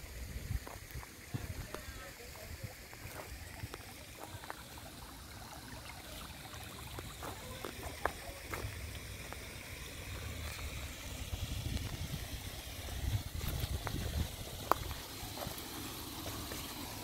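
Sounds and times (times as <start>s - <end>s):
stream trickling over stones: 0.0s - 17.0s.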